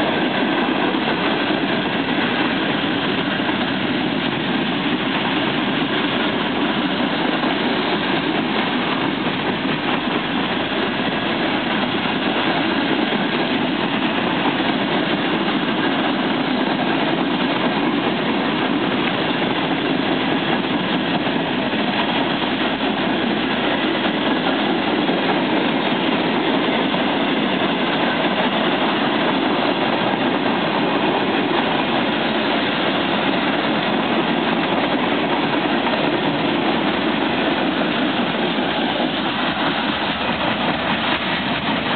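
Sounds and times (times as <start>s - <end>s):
locomotive engine drone: 0.0s - 41.9s
train wheels rumbling on rails: 0.0s - 41.9s.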